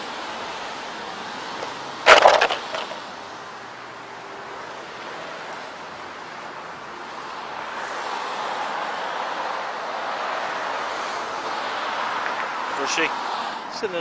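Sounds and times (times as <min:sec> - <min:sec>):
rushing roadside noise: 0:00.0 - 0:14.0.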